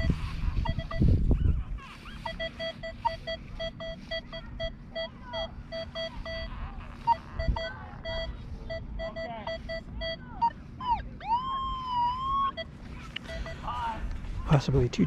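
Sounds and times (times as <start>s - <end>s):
metal detector beeping: 0.0s - 13.9s.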